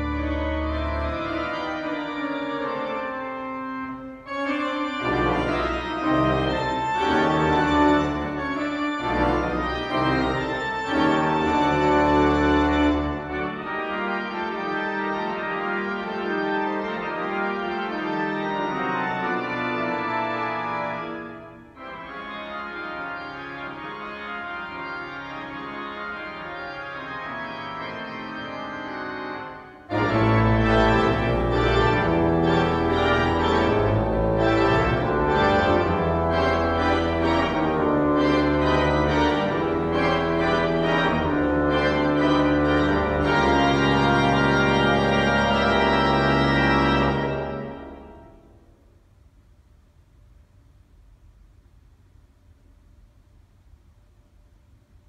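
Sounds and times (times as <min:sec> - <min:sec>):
pipe organ chords: 0:00.0 - 0:48.9.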